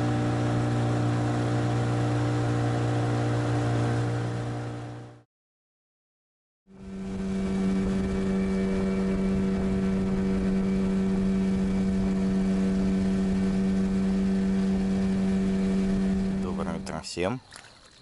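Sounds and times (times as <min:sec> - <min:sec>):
outboard motor running: 0:00.0 - 0:05.2, 0:06.7 - 0:18.0.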